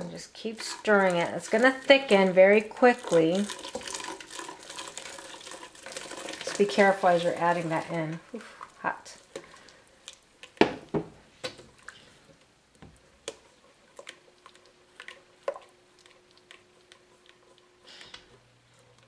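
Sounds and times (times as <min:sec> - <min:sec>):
spatula squishing thick mixture: 0:00.0 - 0:10.6, 0:11.2 - 0:19.0.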